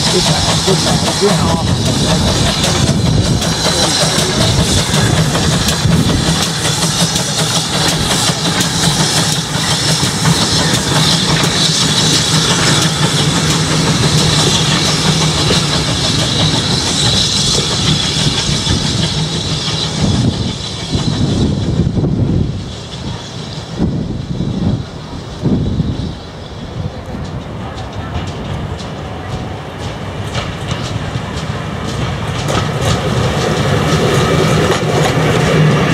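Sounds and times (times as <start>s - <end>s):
steam locomotive exhaust and hiss: 0.0s - 35.9s
wheels rattling on rails: 0.0s - 35.9s.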